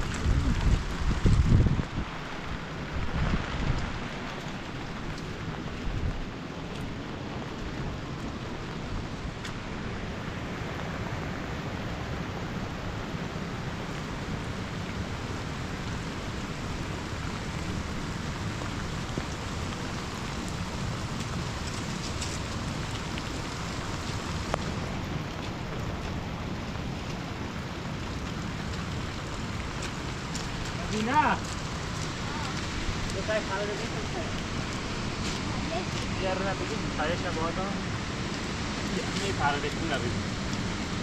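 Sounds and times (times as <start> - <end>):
rain falling steadily: 0.0 - 41.0.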